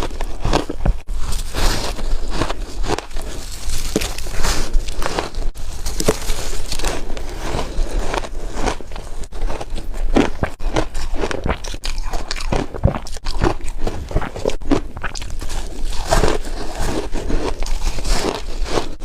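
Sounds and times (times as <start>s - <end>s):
chewing and crunching ice: 0.0s - 19.0s.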